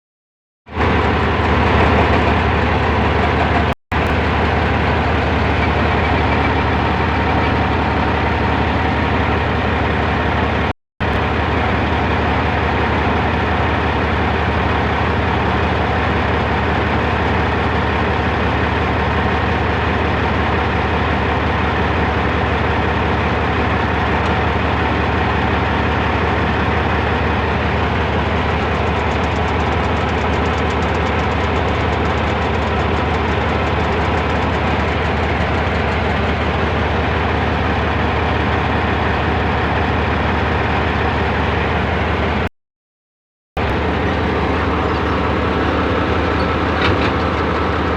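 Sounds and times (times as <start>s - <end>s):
heavy diesel machinery running: 0.7s - 42.5s, 43.6s - 47.9s.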